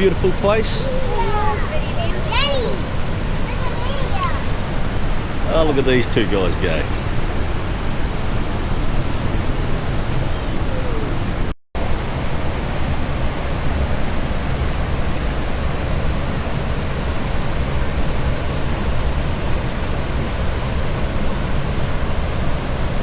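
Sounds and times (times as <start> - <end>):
rushing waterfall and rapids: 0.0 - 23.0.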